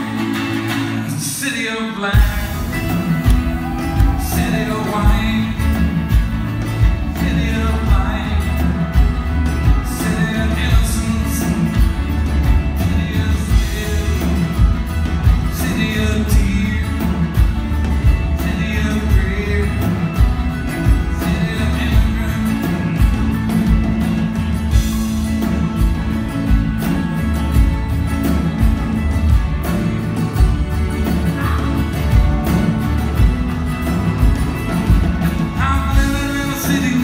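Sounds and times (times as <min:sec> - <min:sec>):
man singing: 0:00.0 - 0:26.0, 0:31.0 - 0:33.3, 0:34.2 - 0:37.0
guitars playing: 0:00.0 - 0:37.0
drums steady beat: 0:02.1 - 0:37.0.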